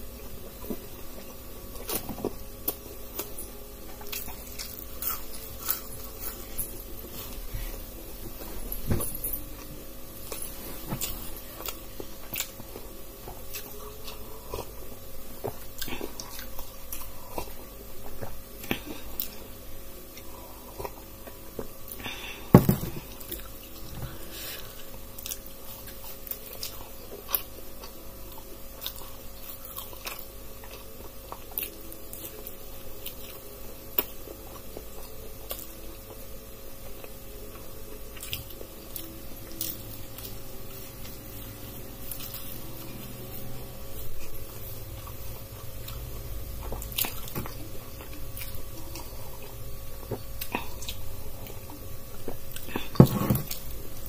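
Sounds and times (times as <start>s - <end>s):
faint steady hum: 0.0s - 54.0s
crunchy food chewing: 0.2s - 8.8s, 9.5s - 54.0s.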